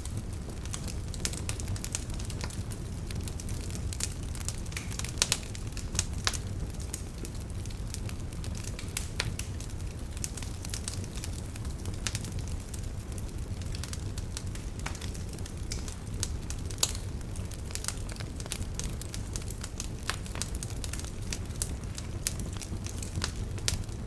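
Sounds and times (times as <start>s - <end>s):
logs crackling and popping: 0.0s - 24.0s
low rumble of flame: 0.0s - 24.0s.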